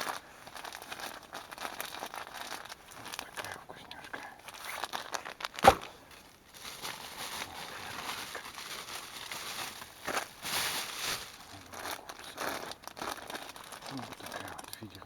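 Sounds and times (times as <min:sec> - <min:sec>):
packets rustling and crinkling: 0:00.0 - 0:15.0.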